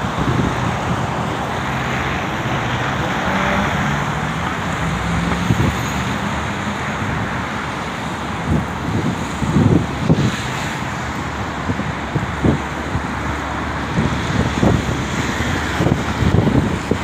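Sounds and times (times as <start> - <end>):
cars driving past: 0.0 - 17.0
wind buffeting microphone: 0.0 - 17.0.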